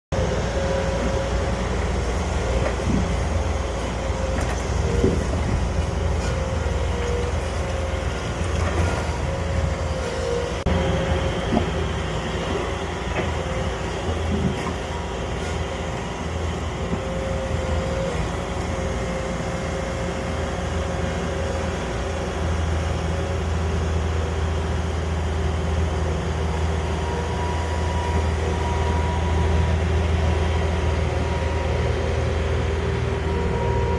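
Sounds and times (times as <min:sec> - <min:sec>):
loader engine running: 0:00.1 - 0:33.9.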